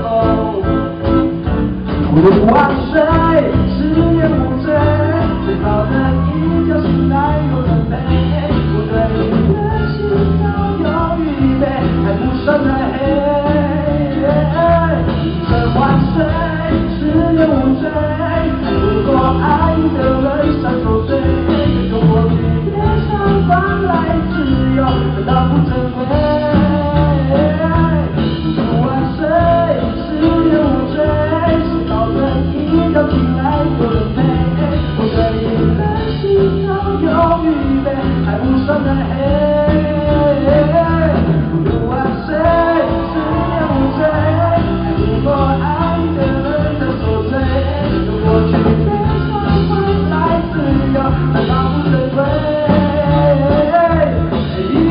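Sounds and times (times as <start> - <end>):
guitar: 0.0 - 54.9
live pop-rock band: 0.0 - 54.9
person singing: 0.0 - 54.9.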